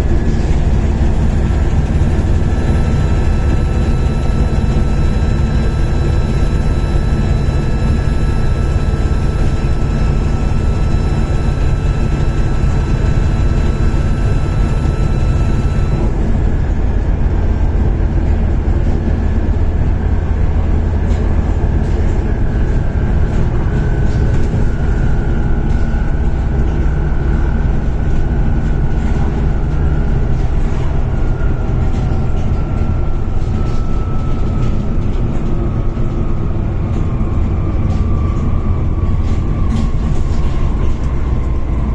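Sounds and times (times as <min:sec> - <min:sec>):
bus diesel engine rumble: 0:00.0 - 0:41.9
turbo whine: 0:00.0 - 0:41.9.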